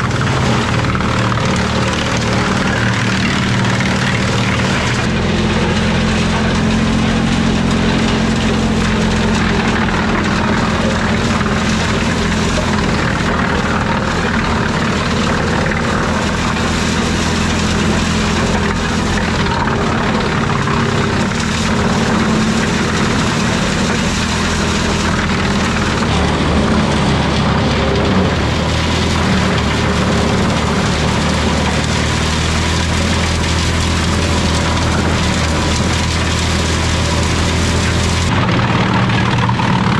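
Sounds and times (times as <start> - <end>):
tractor engine under load: 0.0 - 39.9
wood chipper running: 0.0 - 39.9.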